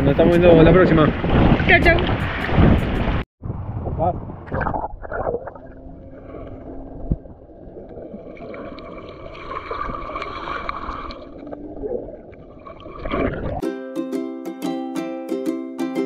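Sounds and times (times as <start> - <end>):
muffled water sloshing and gurgling: 0.5 - 13.6.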